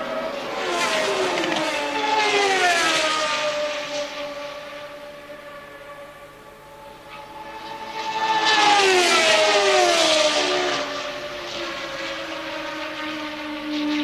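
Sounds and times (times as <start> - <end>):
racing car passing at speed: 0.0 - 14.0
steady racing car engine: 0.0 - 14.0.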